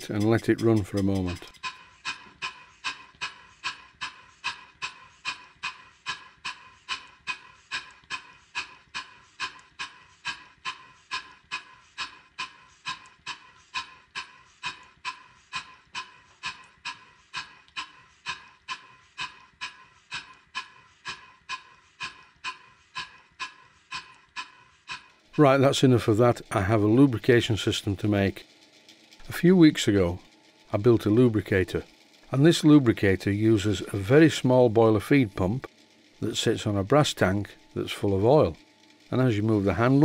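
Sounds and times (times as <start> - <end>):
model steam engine puffing: 0.0 - 38.5.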